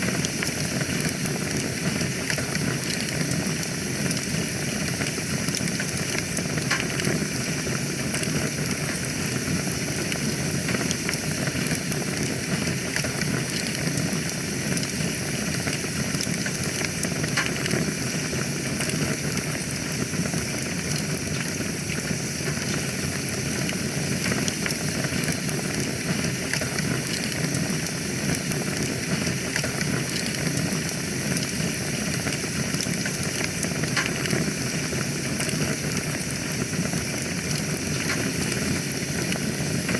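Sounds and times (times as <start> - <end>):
fire crackling and popping: 0.0 - 39.9
wood fire hissing: 0.0 - 39.9.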